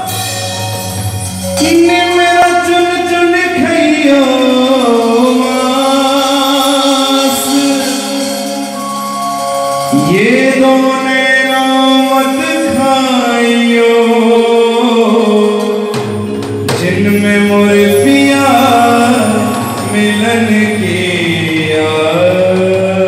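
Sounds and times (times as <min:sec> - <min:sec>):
band with keyboard and drums: 0:00.0 - 0:23.0
man singing long sliding notes: 0:00.0 - 0:23.0.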